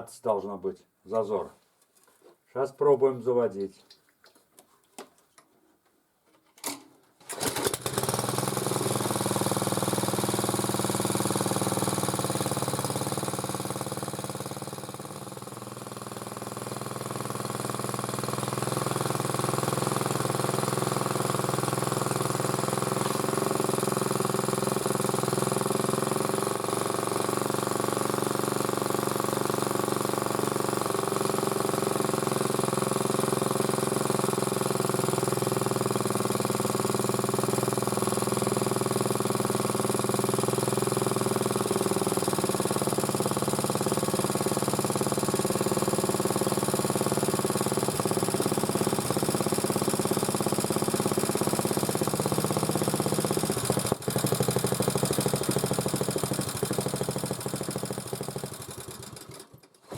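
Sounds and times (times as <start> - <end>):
small engine starting and running: 7.2 - 59.9.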